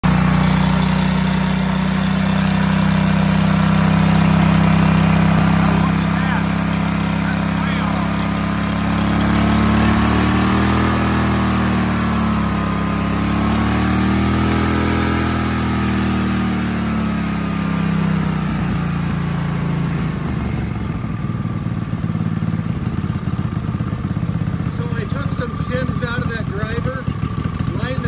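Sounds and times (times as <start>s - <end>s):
small kart engine revving: 0.0s - 28.0s.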